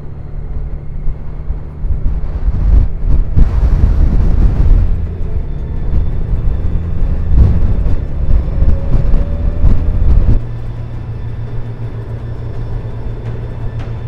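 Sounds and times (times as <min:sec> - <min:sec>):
faint rising tone: 0:00.0 - 0:14.0
motorcycle engine drone: 0:00.0 - 0:14.0
road drone: 0:00.0 - 0:14.0
wind buffeting on microphone: 0:00.0 - 0:14.0.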